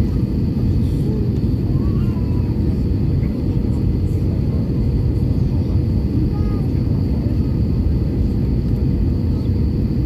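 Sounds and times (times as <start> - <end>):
airliner deep rumble: 0.0 - 10.0.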